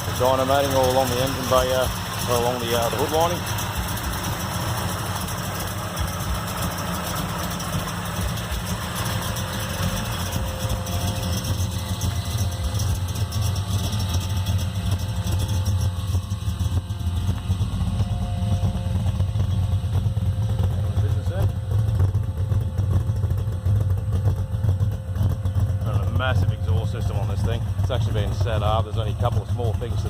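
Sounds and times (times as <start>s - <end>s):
car engine idling lumpily: 0.0s - 30.0s.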